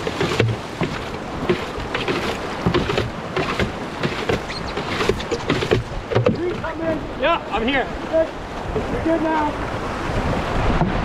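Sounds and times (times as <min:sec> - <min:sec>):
boat knocks and splashes: 0:00.0 - 0:11.0
rushing river water: 0:00.0 - 0:11.0
wind buffeting microphone: 0:00.0 - 0:11.0.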